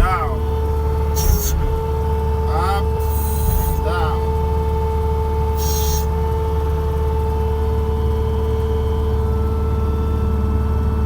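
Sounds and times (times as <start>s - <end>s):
steady whine: 0.0s - 9.3s
diesel engine running: 0.0s - 11.0s.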